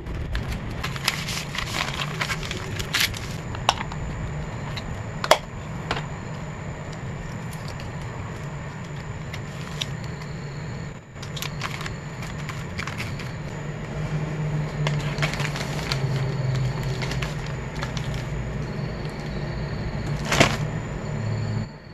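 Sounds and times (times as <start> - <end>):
plastic bags rustling: 0.0 - 10.3, 11.2 - 21.3
low rumble: 0.0 - 21.9.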